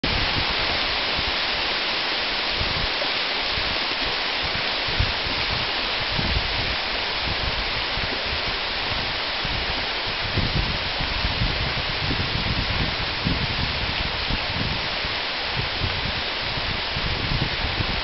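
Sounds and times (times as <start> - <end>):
rain falling on trees: 0.0 - 18.0.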